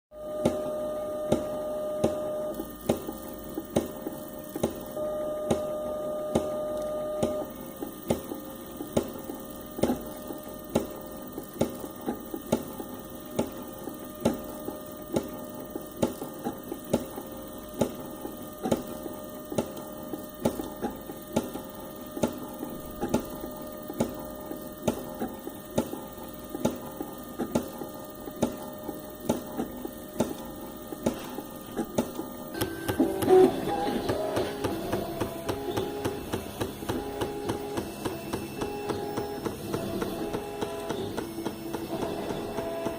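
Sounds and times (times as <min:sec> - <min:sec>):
stepper motor whine: 0:00.2 - 0:42.9.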